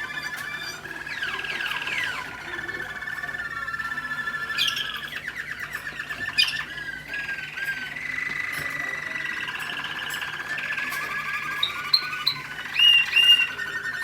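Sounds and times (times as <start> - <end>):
canary singing trills: 0.0 - 14.0.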